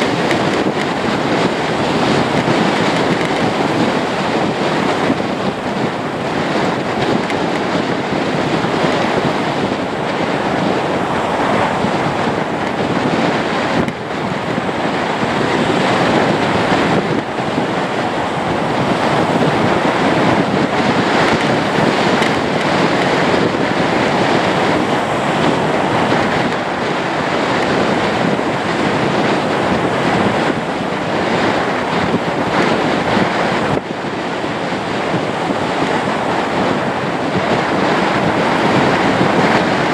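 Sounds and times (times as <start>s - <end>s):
turboprop engines roaring: 0.0s - 39.9s.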